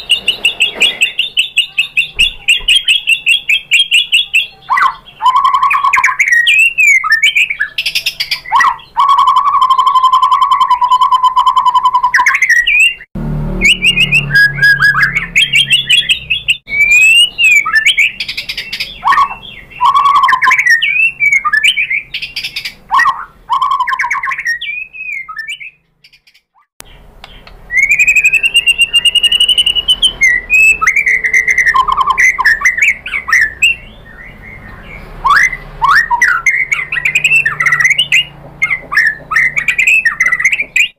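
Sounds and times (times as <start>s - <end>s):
bird singing whistled song: 0.0s - 40.9s.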